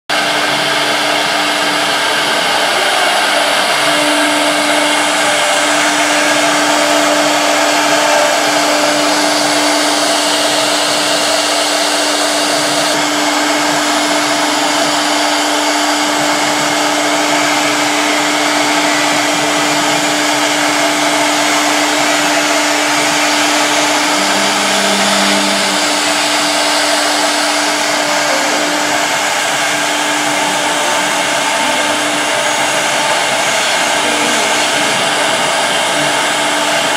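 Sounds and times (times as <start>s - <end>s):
low tone: 0.1s - 36.2s
router spindle whirring: 0.1s - 36.9s
steady hum: 0.1s - 36.9s.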